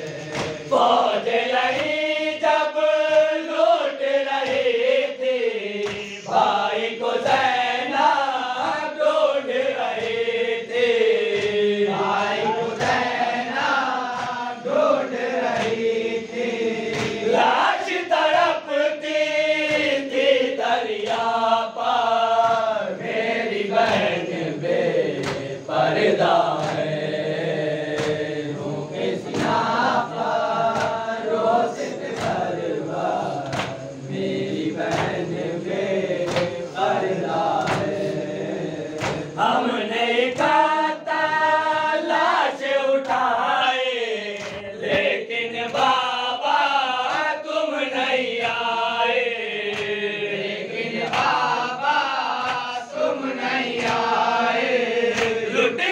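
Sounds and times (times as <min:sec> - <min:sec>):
men chanting in chorus: 0:00.0 - 0:55.9.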